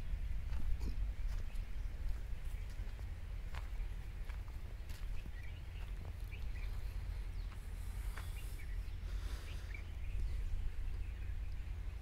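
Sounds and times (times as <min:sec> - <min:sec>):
birds chirping: 0:00.0 - 0:12.0
low rumble: 0:00.0 - 0:12.0.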